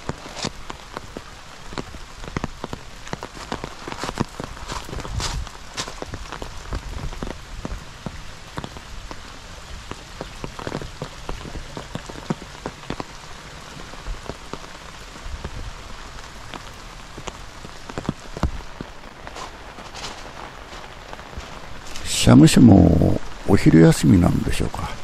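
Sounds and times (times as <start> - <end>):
raindrops tapping close by: 0.0 - 25.0
steady rain on wet ground: 0.0 - 25.0.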